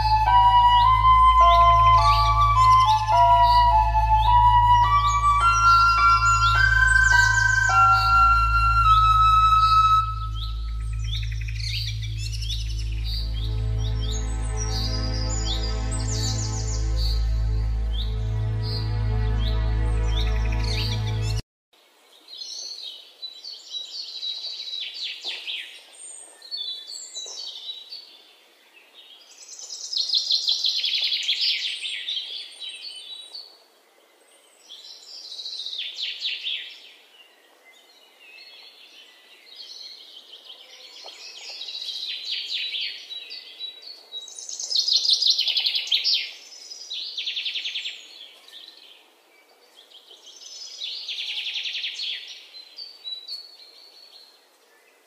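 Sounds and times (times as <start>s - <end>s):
small birds singing: 0.0s - 55.0s.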